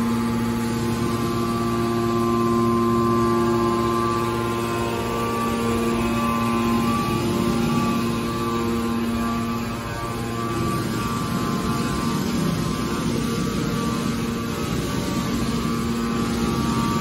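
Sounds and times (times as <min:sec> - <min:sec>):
hydraulic machine hum: 0:00.0 - 0:17.0.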